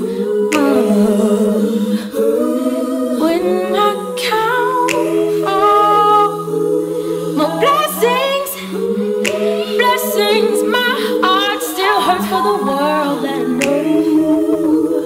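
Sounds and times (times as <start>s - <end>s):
woman singing a cappella harmonies: 0.0s - 15.0s.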